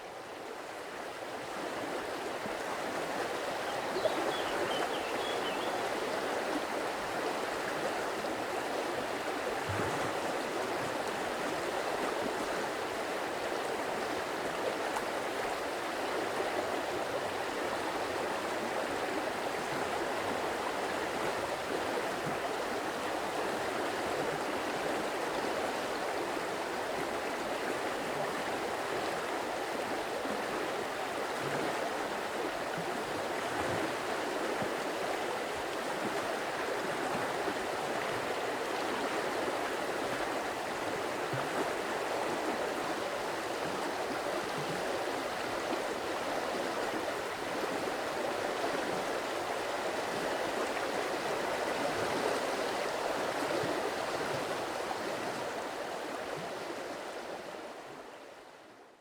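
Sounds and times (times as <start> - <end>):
stream water running: 0.0 - 58.4.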